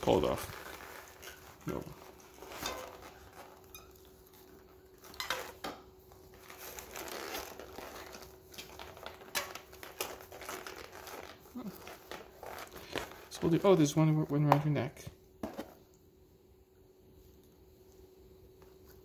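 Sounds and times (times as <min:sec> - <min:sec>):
packaging rustling and crinkling: 0:00.0 - 0:15.8.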